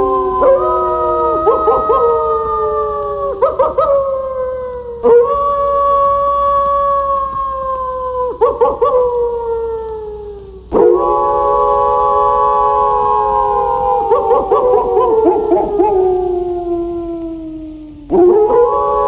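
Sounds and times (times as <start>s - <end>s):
wolves howling: 0.0s - 19.0s.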